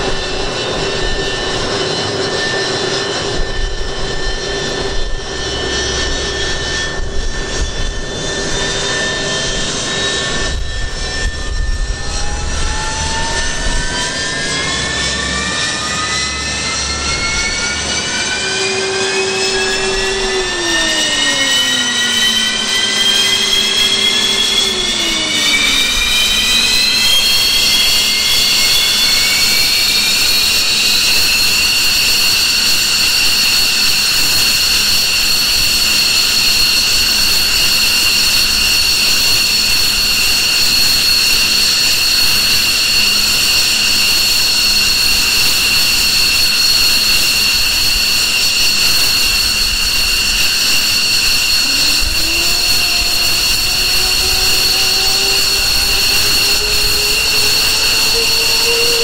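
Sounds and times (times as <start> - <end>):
jet engine whine: 0.0 - 59.0
lower rising engine tone: 0.0 - 59.0.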